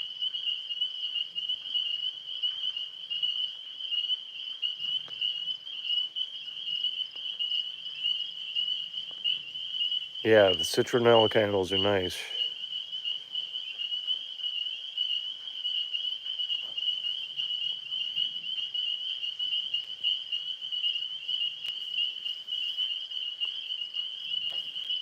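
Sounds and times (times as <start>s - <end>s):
tree frogs trilling: 0.0s - 25.0s.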